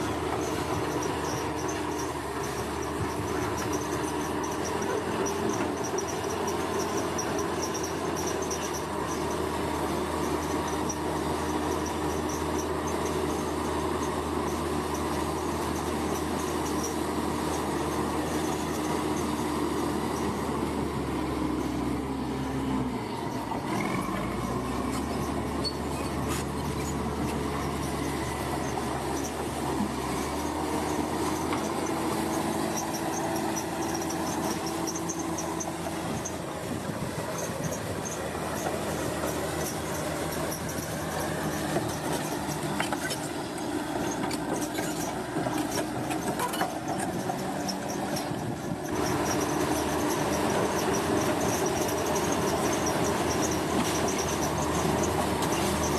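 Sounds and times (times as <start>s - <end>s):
diesel engine running: 0.0s - 55.9s
steel tracks clanking and squealing: 0.0s - 55.9s.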